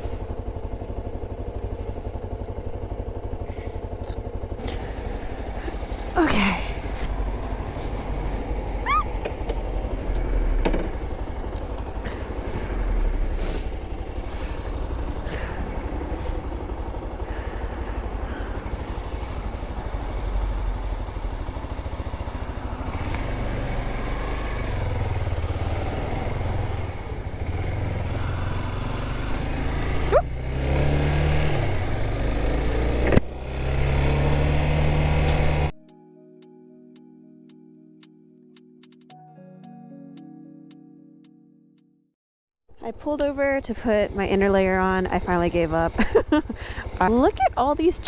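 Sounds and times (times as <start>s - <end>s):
motorcycle engine running: 0.0s - 35.8s, 42.7s - 48.0s.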